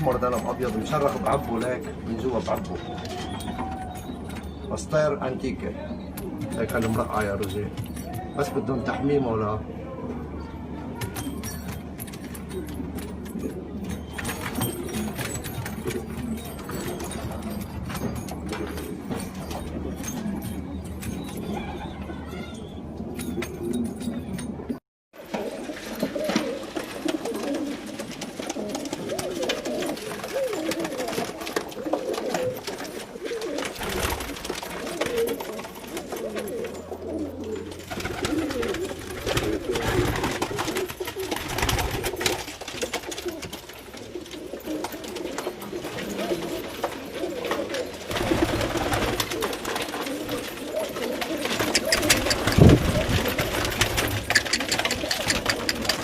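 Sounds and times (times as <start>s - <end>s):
pigeons cooing: 10.0s - 56.0s.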